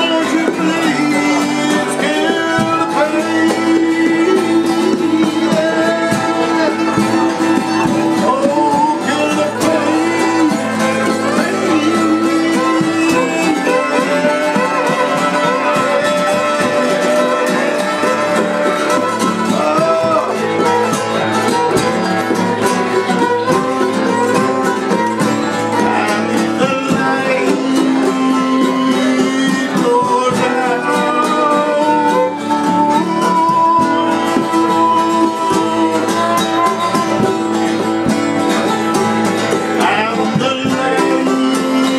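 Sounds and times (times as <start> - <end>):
fiddle melody: 0.0 - 41.9
strummed guitar and mandolin: 0.0 - 41.9.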